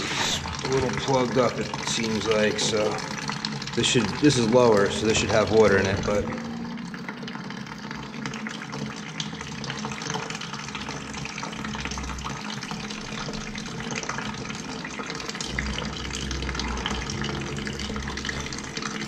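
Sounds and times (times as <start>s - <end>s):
water pouring into a bucket: 0.0s - 19.0s.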